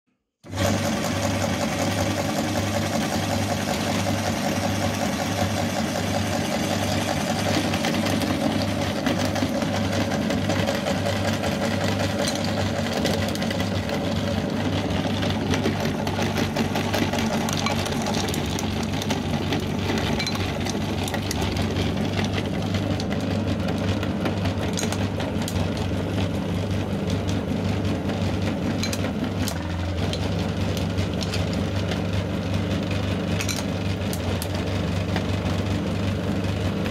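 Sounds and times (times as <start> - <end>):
meat grinder humming: 0.4 - 36.9
wax crackling in grinder: 0.5 - 36.9.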